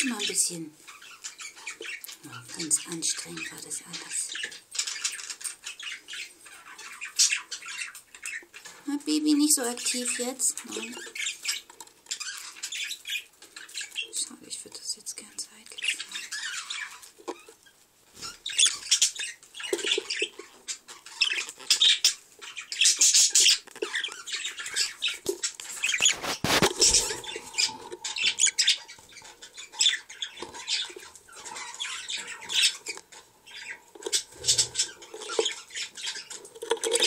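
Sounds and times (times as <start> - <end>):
raspy bird calls: 0.0 - 8.7, 15.5 - 37.0.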